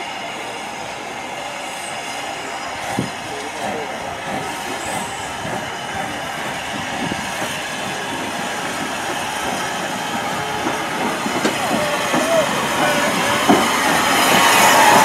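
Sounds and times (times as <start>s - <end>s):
steam locomotive rolling on track: 0.0s - 15.0s.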